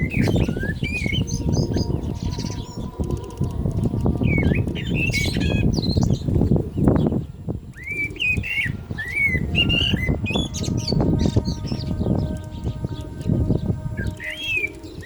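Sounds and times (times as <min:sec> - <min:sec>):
blackbird singing: 0:00.0 - 0:15.0
low rustling rumble: 0:00.0 - 0:15.0.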